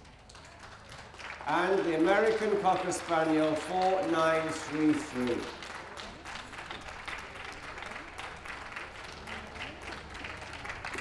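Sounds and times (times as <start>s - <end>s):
crowd applause: 0.0s - 11.0s.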